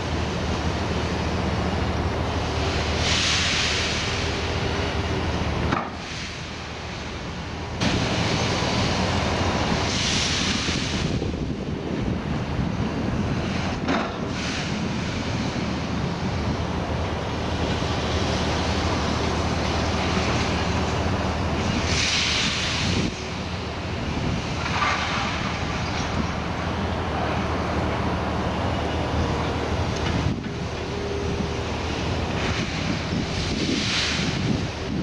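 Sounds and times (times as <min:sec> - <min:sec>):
excavator low hum: 0:00.0 - 0:35.0
rush of hiss-like noise: 0:00.0 - 0:35.0.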